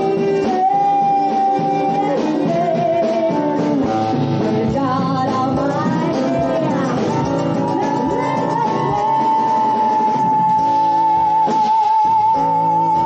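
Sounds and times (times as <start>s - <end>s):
live band playing: 0.0s - 13.0s
person singing long notes: 0.0s - 13.0s.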